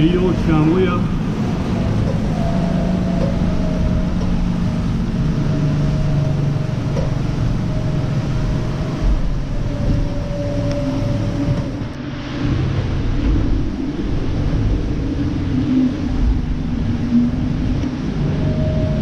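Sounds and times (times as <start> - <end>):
hydrogenerator whine: 0.0 - 19.0
water and air rushing: 0.0 - 19.0.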